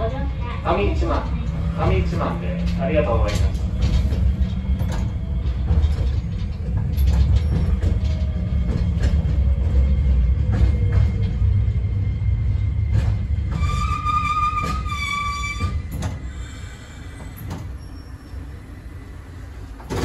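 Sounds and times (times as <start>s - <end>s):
tram wheels rumbling: 0.0s - 20.0s.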